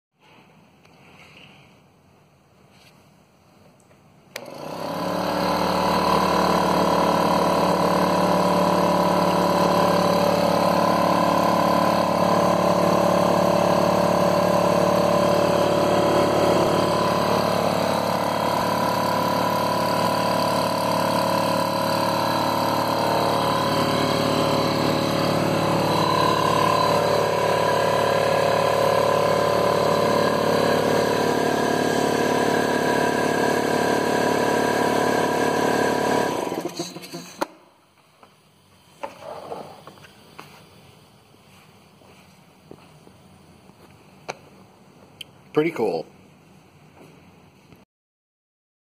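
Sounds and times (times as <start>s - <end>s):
air compressor humming: 4.3s - 47.7s.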